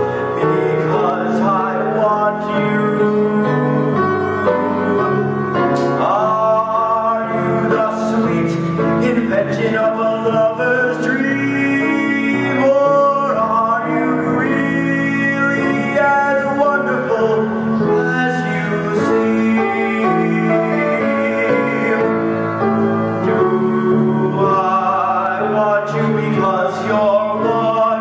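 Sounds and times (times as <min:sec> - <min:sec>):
boy singing a ballad: 0:00.0 - 0:22.6, 0:23.3 - 0:28.0
instrumental accompaniment: 0:00.0 - 0:28.0.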